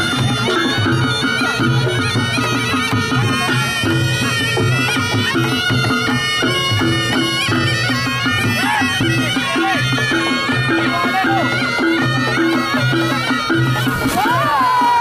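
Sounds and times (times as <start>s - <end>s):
drums and gongs rhythm: 0.0s - 15.0s
shawm melody: 0.0s - 15.0s.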